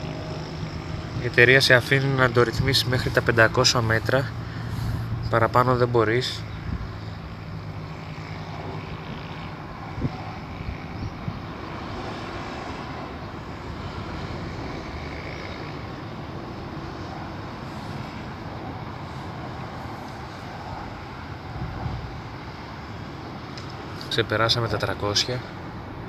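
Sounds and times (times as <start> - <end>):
outdoor rumble and hiss: 0.0 - 26.0.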